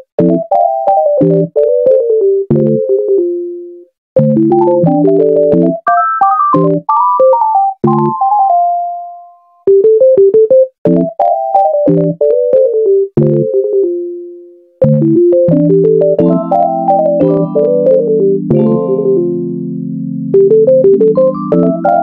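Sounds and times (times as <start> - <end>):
synthesizer and electric piano melody: 0.0 - 22.0.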